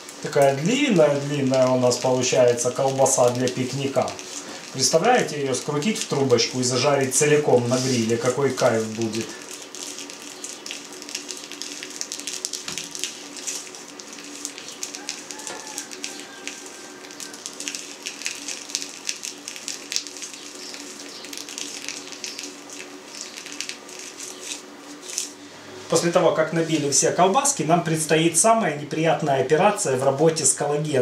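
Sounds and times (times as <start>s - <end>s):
sausage casing crackling: 0.0s - 28.0s
faint hum: 0.0s - 31.0s.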